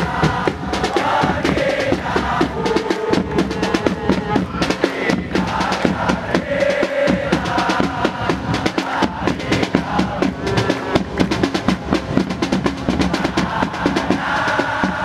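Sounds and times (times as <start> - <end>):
crowd singing: 0.0 - 12.2, 12.8 - 15.0
drums beating fast rhythm: 0.0 - 15.0.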